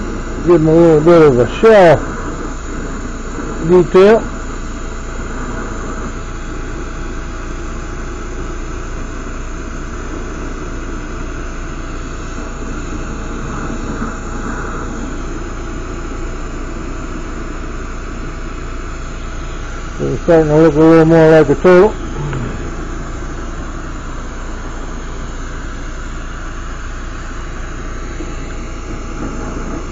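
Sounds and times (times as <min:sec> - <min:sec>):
torch flame rushing: 0:00.0 - 0:29.9.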